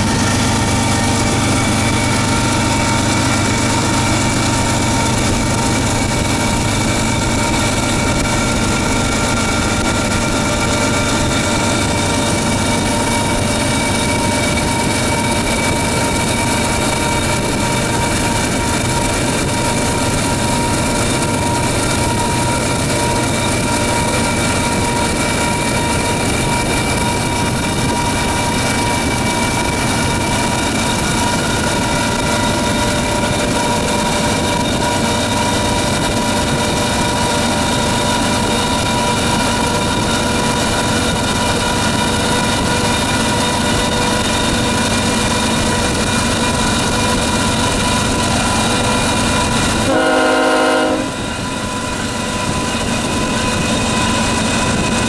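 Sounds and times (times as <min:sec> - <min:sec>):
diesel locomotive running: 0:00.0 - 0:55.0.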